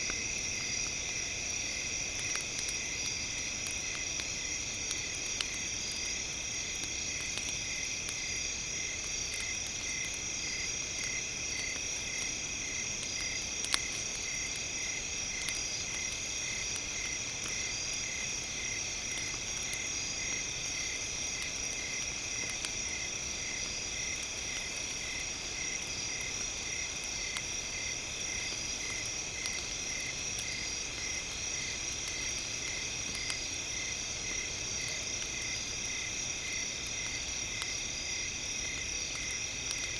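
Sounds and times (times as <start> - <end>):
faint campfire crackles: 0.0 - 39.9.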